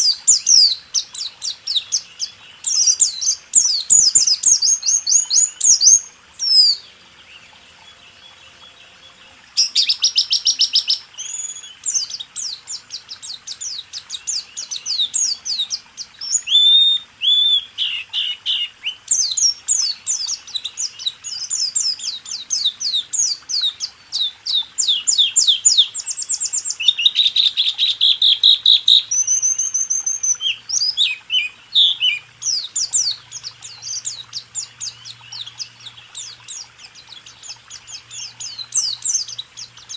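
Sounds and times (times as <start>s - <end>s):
bird song with fast trills: 0.0s - 39.9s.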